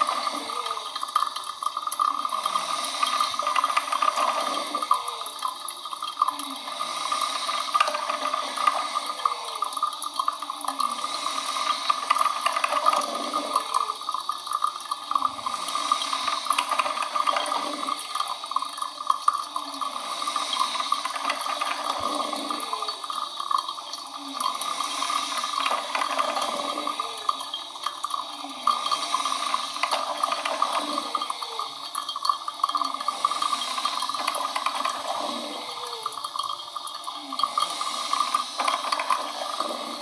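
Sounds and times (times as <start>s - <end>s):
coffee machine liquid hiss: 0.0s - 40.0s.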